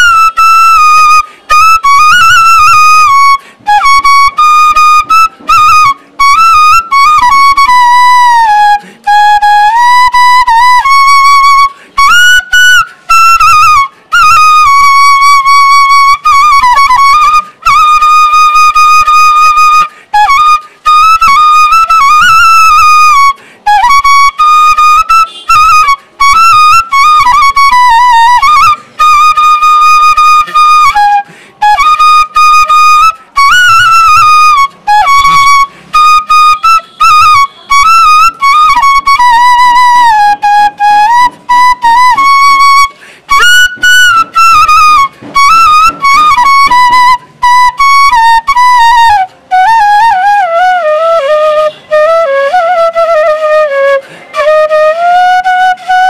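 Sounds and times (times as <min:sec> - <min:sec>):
bamboo flute melody: 0:00.0 - 0:56.0.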